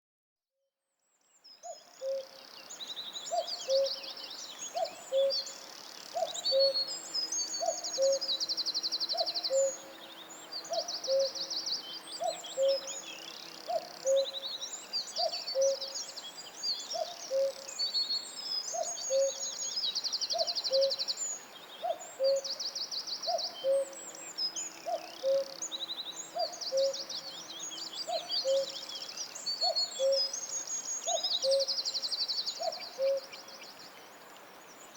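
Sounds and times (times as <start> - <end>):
songbirds trilling and chirping: 1.4 - 34.9.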